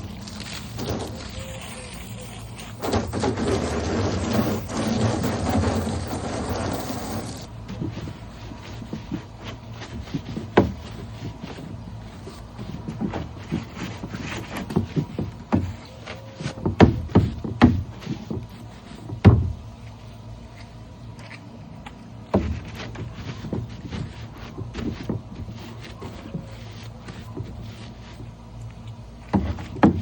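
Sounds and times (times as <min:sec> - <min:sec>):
plastic bin being scrubbed: 0:00.0 - 0:20.0, 0:22.2 - 0:30.0
knocks and scrapes: 0:00.0 - 0:30.0
steady low hum: 0:00.0 - 0:30.0.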